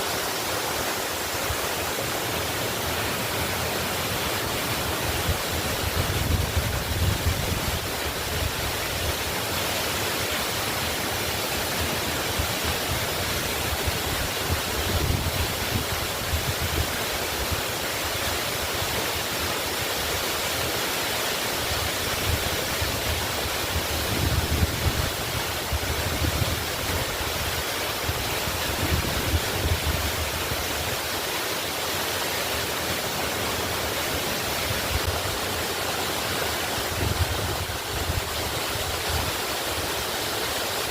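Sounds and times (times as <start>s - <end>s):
low rumble of falling water: 0.0s - 40.9s
waterfall rushing: 0.0s - 40.9s.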